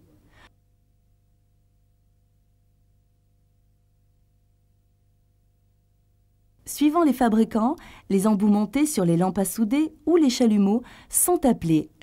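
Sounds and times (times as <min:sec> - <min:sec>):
faint hum of thin tones: 0:00.0 - 0:12.0.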